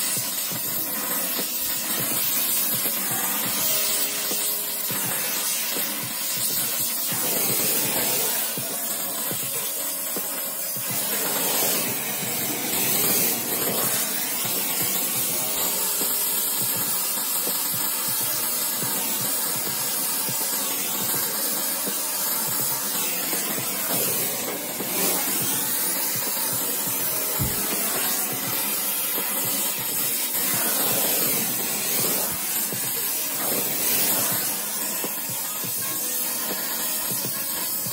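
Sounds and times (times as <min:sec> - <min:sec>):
torch flame hissing: 0:00.0 - 0:37.9.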